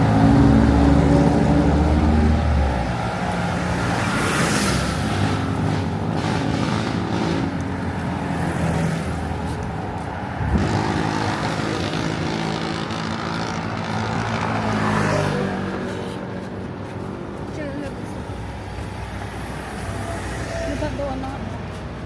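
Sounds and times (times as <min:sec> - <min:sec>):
street traffic: 0:00.0 - 0:22.0
vehicle engine humming: 0:00.0 - 0:22.0.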